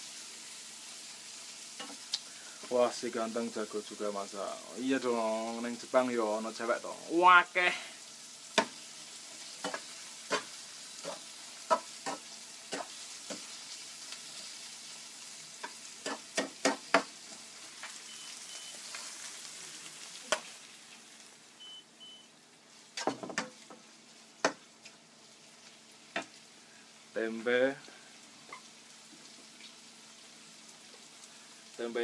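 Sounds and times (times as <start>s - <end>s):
seafood sizzling in a pan: 0.0s - 32.0s.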